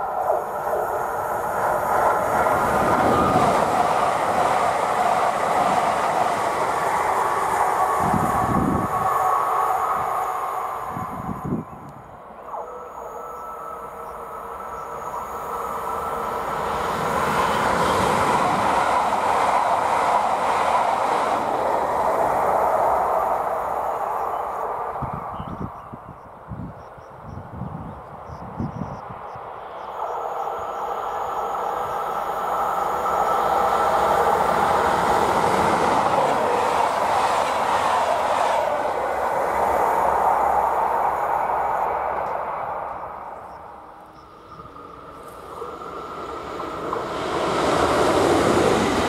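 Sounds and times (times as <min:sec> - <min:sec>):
train wheels rushing on rails: 0:00.0 - 0:49.0.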